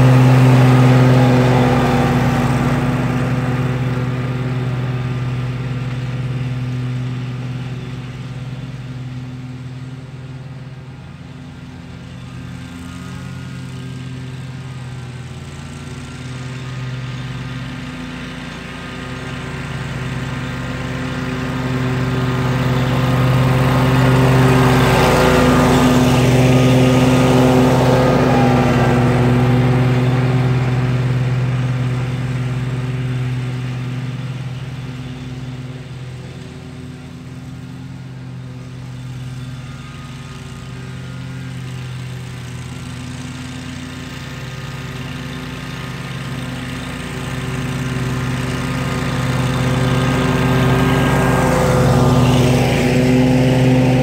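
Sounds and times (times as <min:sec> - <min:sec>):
lawn mower running: 0:00.0 - 0:54.0.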